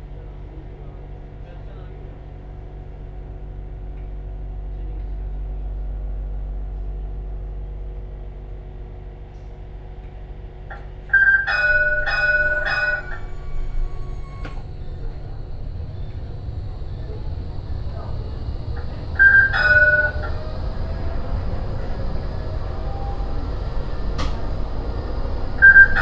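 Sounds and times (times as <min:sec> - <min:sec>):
tram running rumble: 0:00.0 - 0:26.0
tram warning gong: 0:02.1 - 0:26.0.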